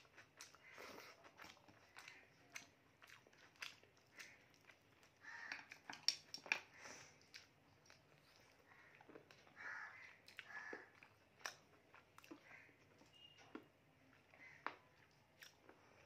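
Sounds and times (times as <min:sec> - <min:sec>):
wet chewing and lip-smacking: 0:00.0 - 0:16.0.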